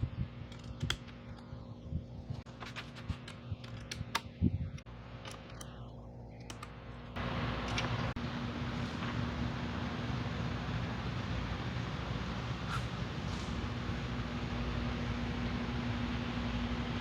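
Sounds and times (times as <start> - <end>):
steady hum: 3.2 - 17.0.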